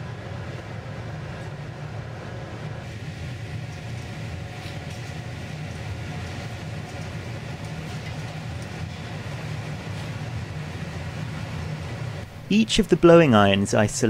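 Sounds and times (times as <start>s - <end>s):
gas burner and blower roar: 0.0s - 14.0s.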